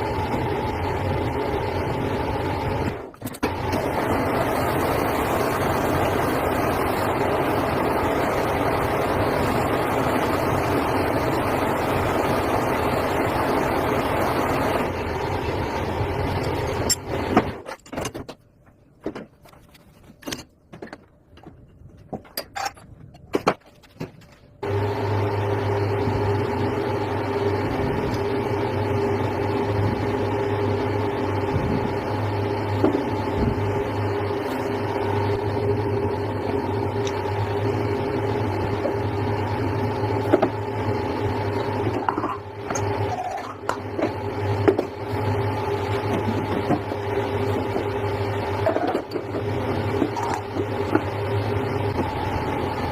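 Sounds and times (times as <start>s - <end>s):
electric machine humming: 0.0s - 17.6s, 24.6s - 52.9s.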